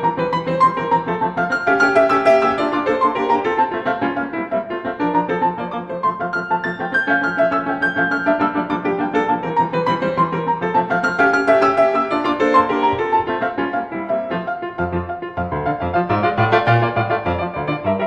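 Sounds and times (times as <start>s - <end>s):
fast staccato piano piece: 0.0s - 18.0s.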